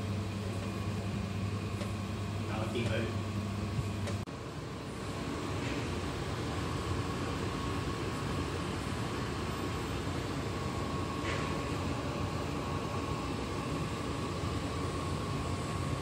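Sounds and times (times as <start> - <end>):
fan motor whirring hum: 0.0 - 16.0.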